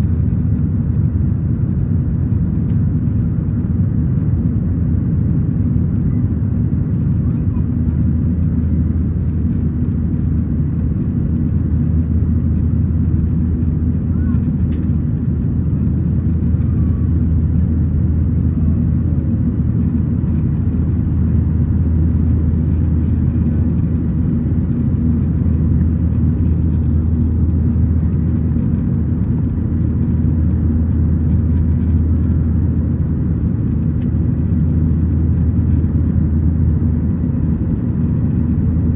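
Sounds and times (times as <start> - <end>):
airplane cabin engine rumble: 0.0 - 38.9
constant deep hum: 0.0 - 38.9.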